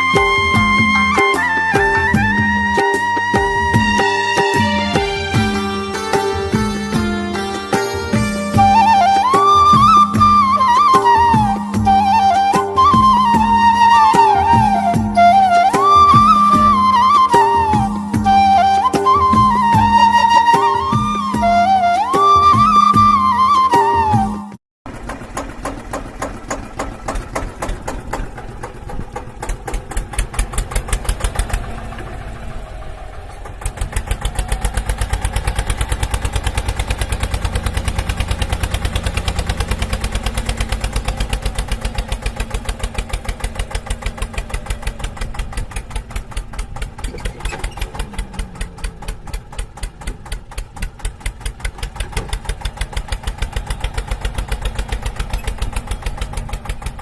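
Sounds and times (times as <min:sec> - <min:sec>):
engine idling with knocking beat: 0:00.0 - 0:57.0.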